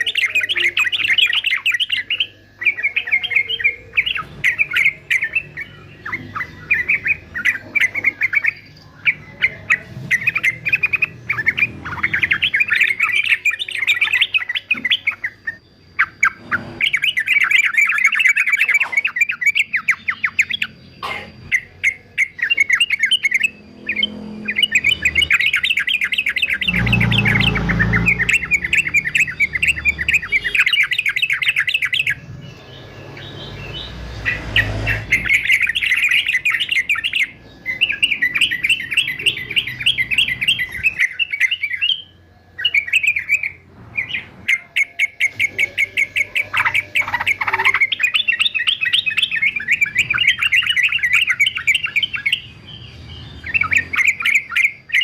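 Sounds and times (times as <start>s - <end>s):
bulbul singing: 0.0s - 55.0s.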